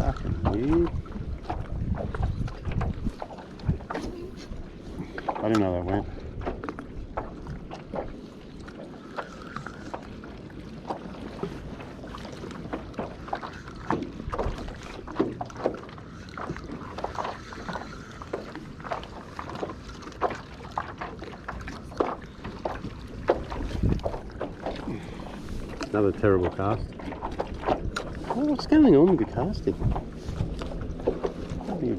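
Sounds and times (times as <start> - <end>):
waves knocking against a hull: 0.0 - 31.9.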